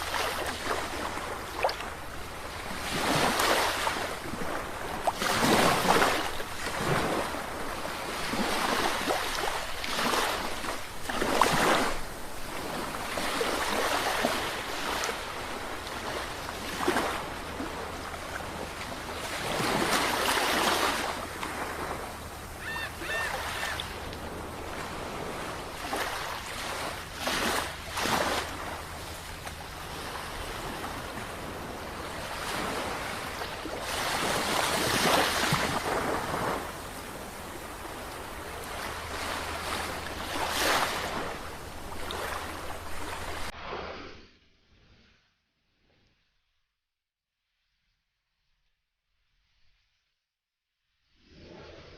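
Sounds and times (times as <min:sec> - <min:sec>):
sea waves breaking: 0:00.0 - 0:44.0.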